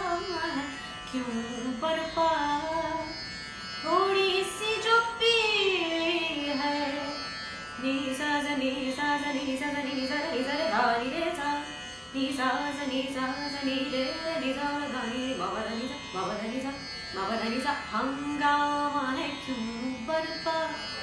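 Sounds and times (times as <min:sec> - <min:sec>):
woman singing: 0:00.0 - 0:03.2, 0:03.8 - 0:21.0.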